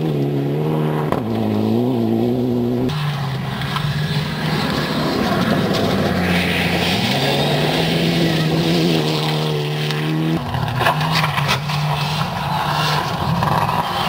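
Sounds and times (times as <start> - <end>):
rally car engines at full throttle: 0.0 - 14.0.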